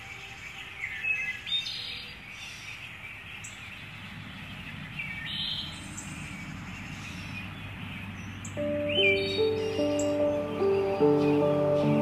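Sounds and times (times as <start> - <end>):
outdoor background: 0.0 - 12.0
wild birds chirping: 0.0 - 12.0.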